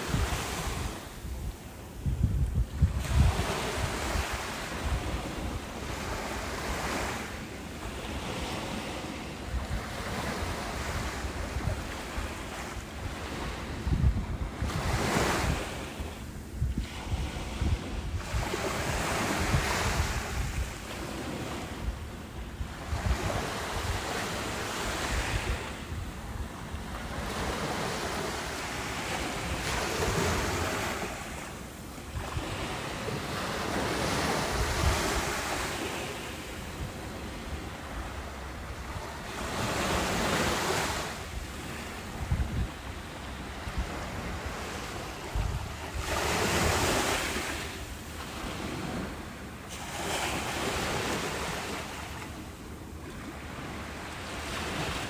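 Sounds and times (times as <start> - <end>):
ocean waves breaking on beach: 0.0 - 55.0
wind rumble on microphone: 0.0 - 55.0.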